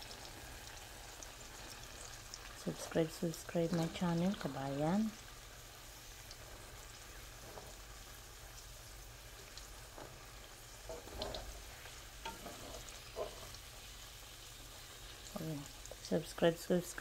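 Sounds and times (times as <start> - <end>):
bananas sizzling in oil: 0.0 - 17.0.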